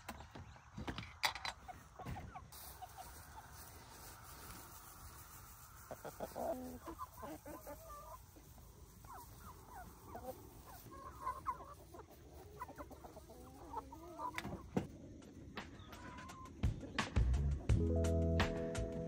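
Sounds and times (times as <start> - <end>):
chickens clucking: 0.0 - 17.2.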